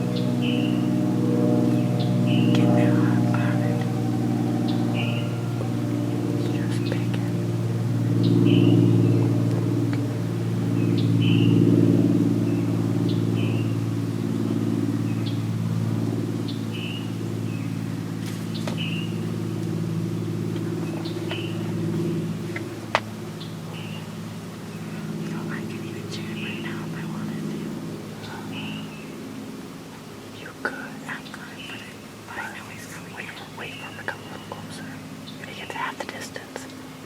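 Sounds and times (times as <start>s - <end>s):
bird chirping: 0.0s - 37.0s
low motor drone: 0.0s - 37.0s.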